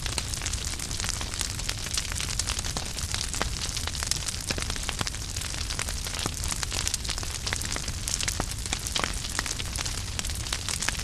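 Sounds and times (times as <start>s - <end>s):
firewood crackling and popping: 0.0s - 11.0s
low rumble of flames: 0.0s - 11.0s.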